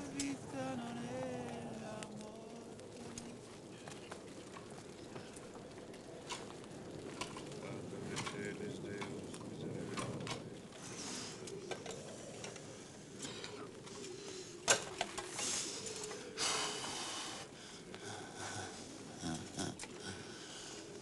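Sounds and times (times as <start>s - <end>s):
loud cracks of fire: 0.0s - 19.2s
fire crackling: 0.0s - 21.0s.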